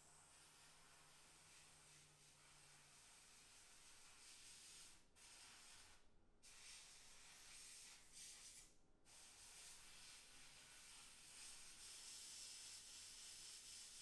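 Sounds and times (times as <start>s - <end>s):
airbrush spraying hiss: 0.6s - 6.0s, 6.6s - 8.6s, 9.2s - 14.0s.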